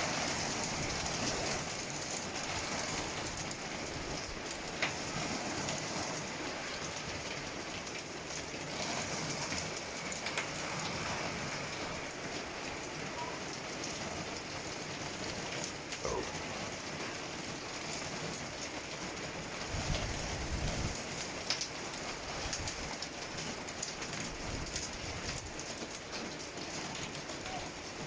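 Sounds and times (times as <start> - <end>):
hail and rain pelting surfaces: 0.0 - 28.0.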